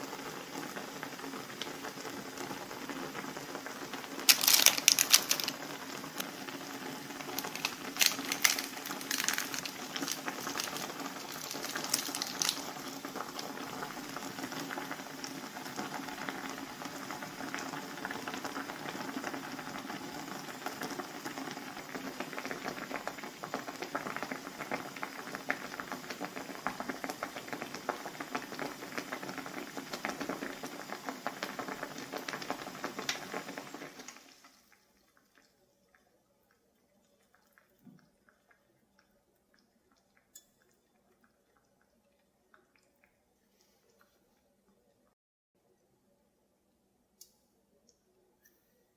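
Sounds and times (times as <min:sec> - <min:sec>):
pot boiling and bubbling: 0:00.0 - 0:46.0.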